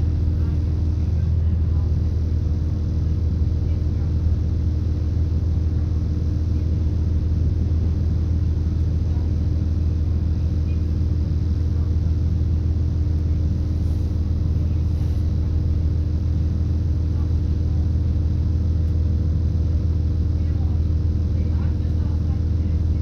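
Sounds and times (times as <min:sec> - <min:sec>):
train interior diesel engine rumble: 0:00.0 - 0:23.0.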